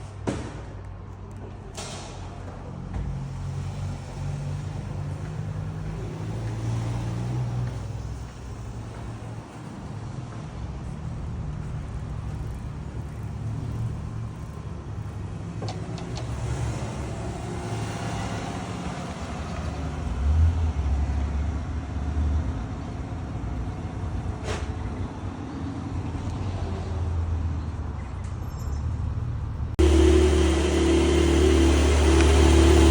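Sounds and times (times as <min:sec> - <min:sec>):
car engines in traffic: 0:01.7 - 0:32.9.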